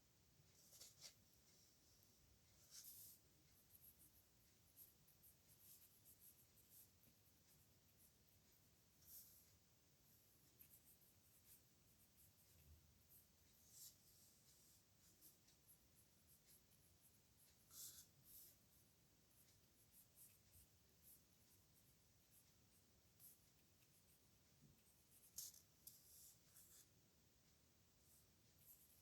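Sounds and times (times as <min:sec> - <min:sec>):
pen scratching on paper: 0:02.6 - 0:26.9, 0:28.1 - 0:29.0.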